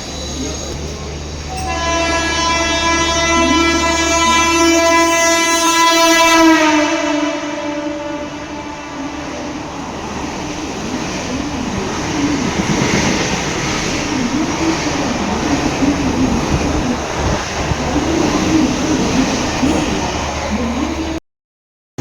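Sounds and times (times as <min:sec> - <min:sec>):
electric train rumbling past: 0:00.0 - 0:21.2
train horn: 0:01.4 - 0:21.2.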